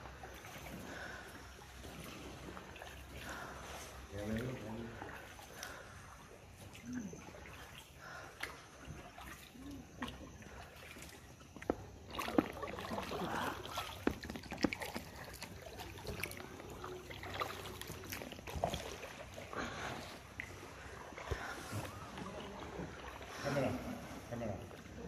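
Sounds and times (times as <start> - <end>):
paddle splashing water: 0.0 - 25.0.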